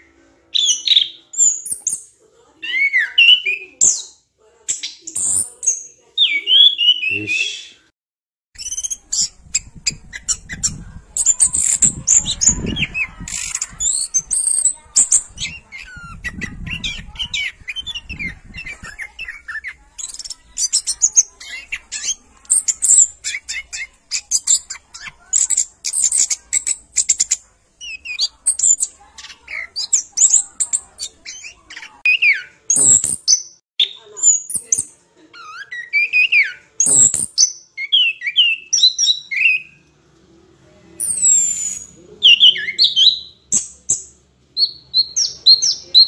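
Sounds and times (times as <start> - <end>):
birds chirping and squawking: 0.0 - 7.8, 8.6 - 39.8, 41.0 - 46.0.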